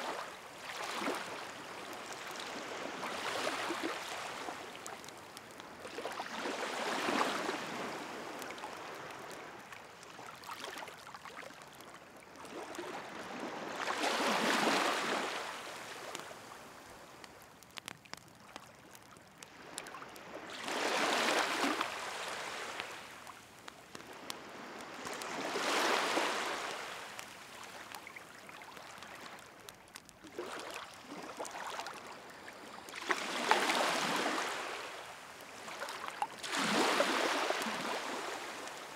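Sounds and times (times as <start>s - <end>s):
campfire crackling: 0.0s - 38.9s
waves washing on shore: 0.0s - 38.9s.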